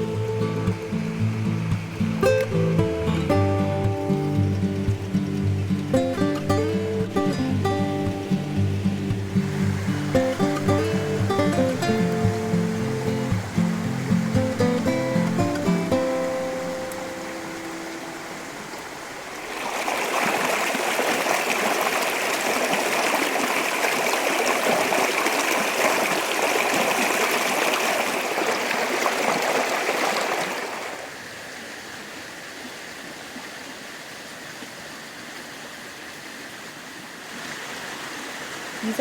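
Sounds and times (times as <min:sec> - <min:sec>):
creek water running: 0:00.0 - 0:39.0.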